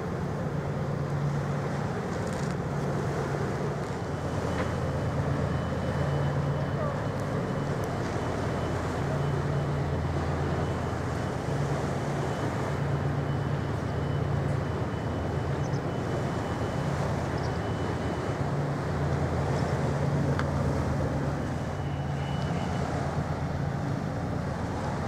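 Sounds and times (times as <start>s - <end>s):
ferry engines droning: 0.0s - 25.0s.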